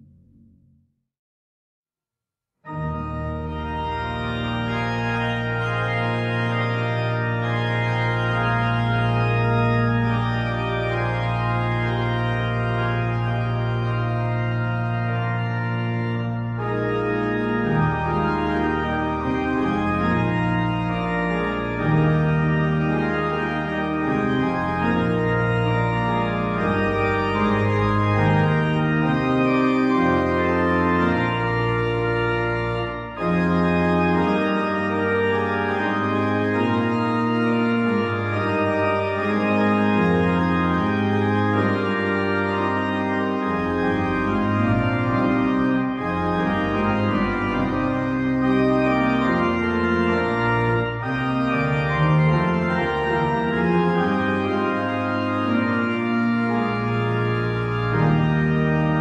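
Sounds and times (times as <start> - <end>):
organ chords: 2.7 - 59.0.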